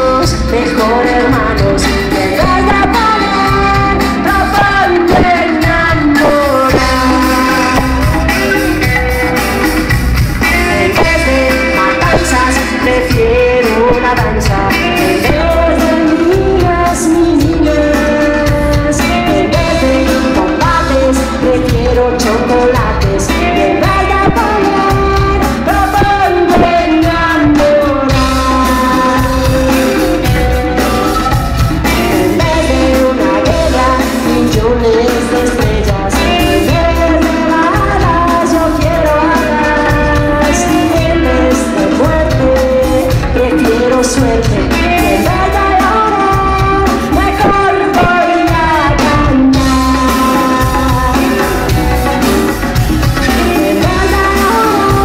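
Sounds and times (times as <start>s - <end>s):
drum kit: 0.0s - 55.0s
electric guitars: 0.0s - 55.0s
woman singing: 0.0s - 55.0s.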